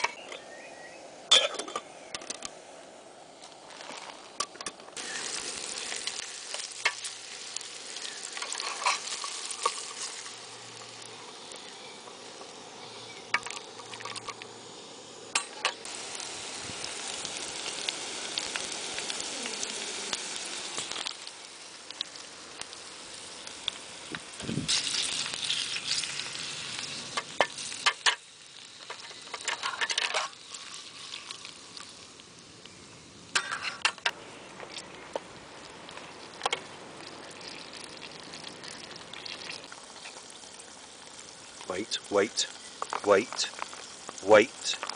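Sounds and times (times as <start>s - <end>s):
vegetables sizzling in a pan: 5.0s - 34.4s, 35.5s - 44.9s.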